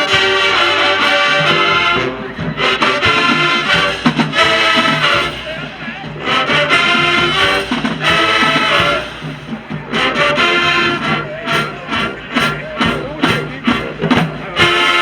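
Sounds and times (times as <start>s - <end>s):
brass chords: 0.0s - 15.0s
marching band playing: 0.0s - 15.0s
drum hits: 1.3s - 15.0s.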